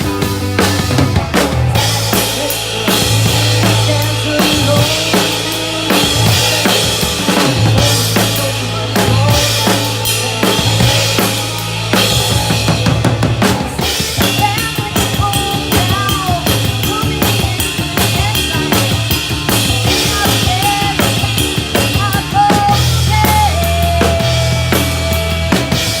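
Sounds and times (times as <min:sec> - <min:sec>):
bass line: 0:00.0 - 0:26.0
drum kit playing: 0:00.0 - 0:26.0.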